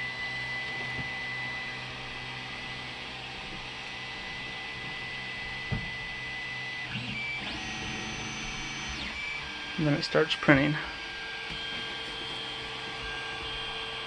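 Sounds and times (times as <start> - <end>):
printer fans and motor whine: 0.0 - 14.0.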